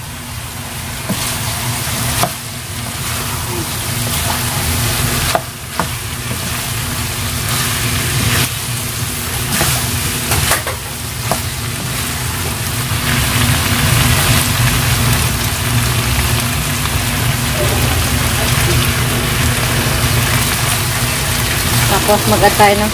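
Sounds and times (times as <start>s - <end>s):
filling sizzling in a pan: 0.0s - 22.9s
steady low hum: 0.0s - 22.9s.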